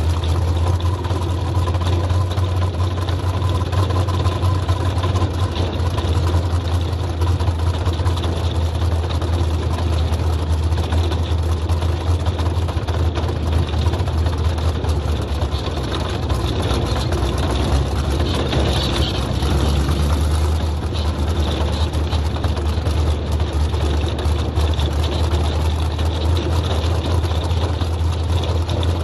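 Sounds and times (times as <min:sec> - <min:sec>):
race car engine running: 0:00.0 - 0:29.0.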